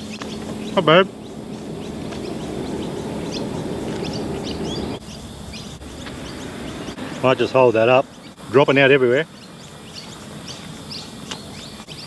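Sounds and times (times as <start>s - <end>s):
low rushing noise: 0.0s - 9.9s
small birds chirping: 0.0s - 12.0s.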